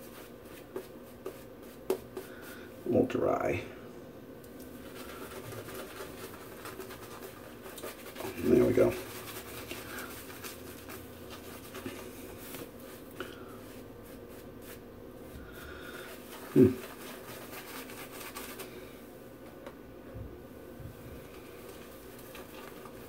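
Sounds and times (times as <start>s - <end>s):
shaving brush rubbing scalp: 0.0s - 3.4s, 4.7s - 19.0s, 21.2s - 23.0s.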